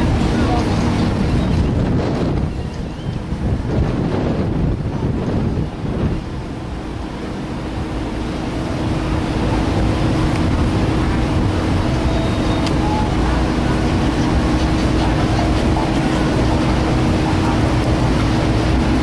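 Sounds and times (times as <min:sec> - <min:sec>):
ship engines rumbling: 0:00.0 - 0:19.0.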